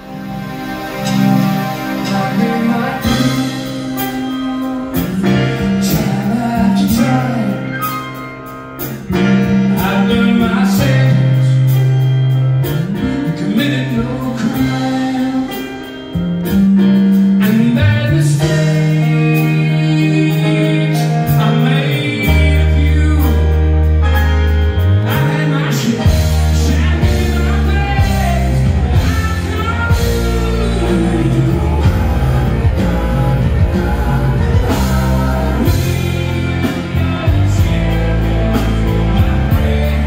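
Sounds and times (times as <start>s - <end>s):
electric guitar: 0.0s - 40.0s
grand piano: 0.0s - 40.0s
man singing: 1.1s - 8.3s, 9.0s - 12.0s, 12.6s - 40.0s.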